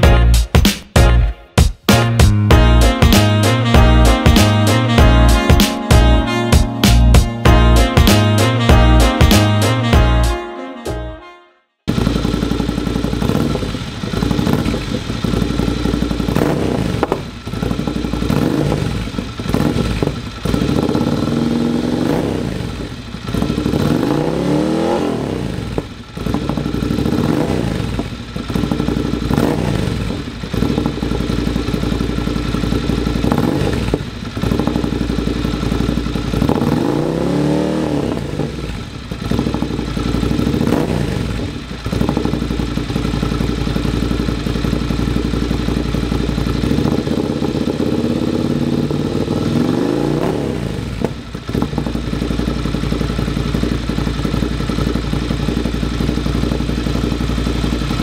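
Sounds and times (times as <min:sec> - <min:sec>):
motorcycle engine revving: 0:01.9 - 0:10.4, 0:11.9 - 0:58.0.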